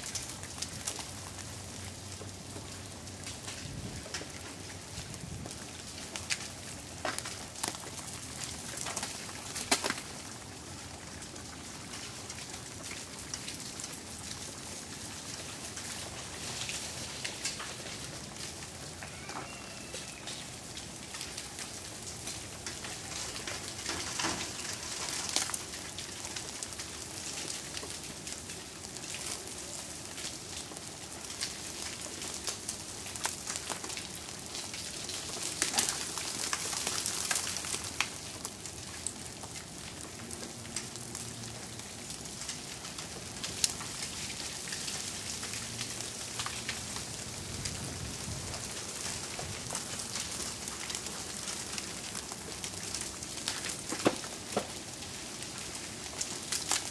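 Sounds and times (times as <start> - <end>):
meltwater dripping: 0.0 - 47.8, 48.4 - 56.9
ice bits ticking on snow: 0.0 - 56.9.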